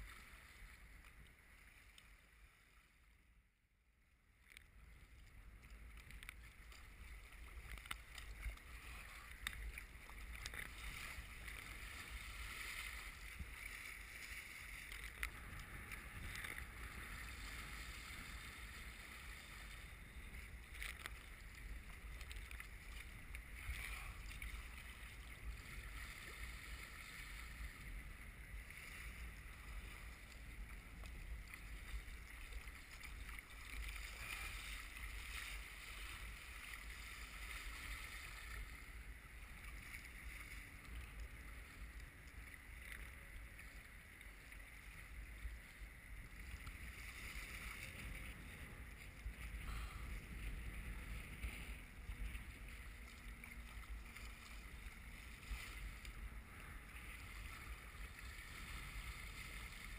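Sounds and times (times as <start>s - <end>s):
water splashing along kayak hull: 0.0s - 59.9s.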